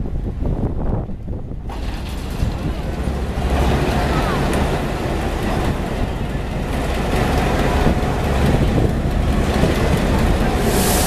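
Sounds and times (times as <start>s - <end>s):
locomotive engine rumbling: 0.0s - 11.0s.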